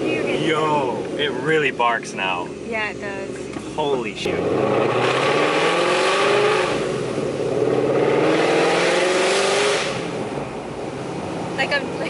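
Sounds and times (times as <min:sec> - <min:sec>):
car exhaust accelerating: 0:00.0 - 0:12.0.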